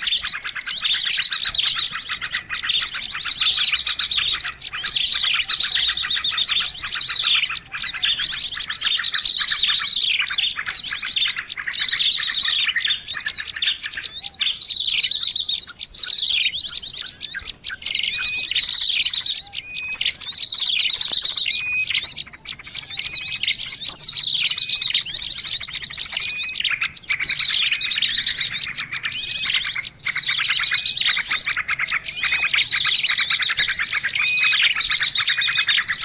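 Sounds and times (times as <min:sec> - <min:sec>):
songbirds chirping and trilling: 0:00.0 - 0:36.0.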